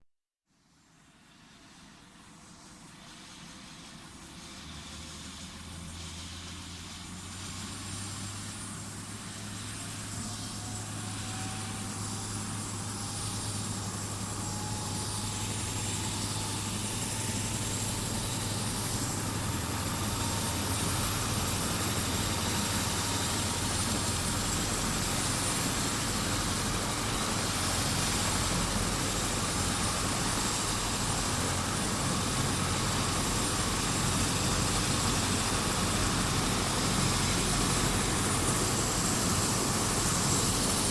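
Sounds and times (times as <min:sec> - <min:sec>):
helicopter rotor and turbine whine: 0:00.7 - 0:40.9.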